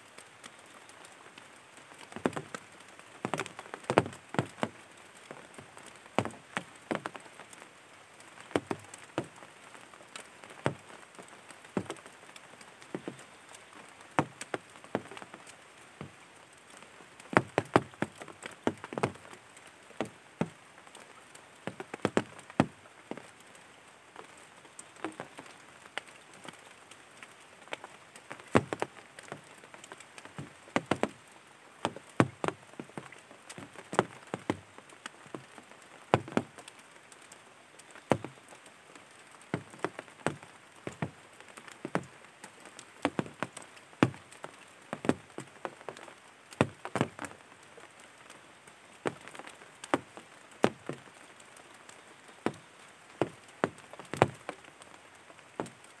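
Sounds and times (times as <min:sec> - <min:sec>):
faint steady hiss: 0:00.0 - 0:56.0
sharp taps and drips: 0:00.1 - 0:56.0.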